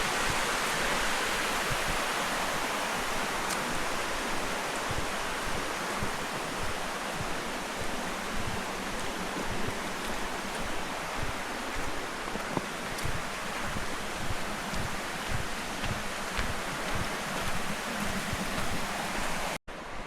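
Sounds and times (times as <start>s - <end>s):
water rushing down waterfall: 0.0s - 20.0s.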